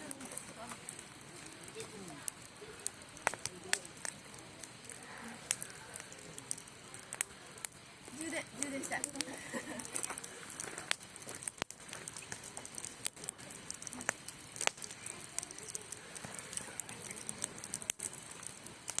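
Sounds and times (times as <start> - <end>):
bonfire crackling and popping: 0.0 - 19.0
soft steady hiss: 0.0 - 19.0.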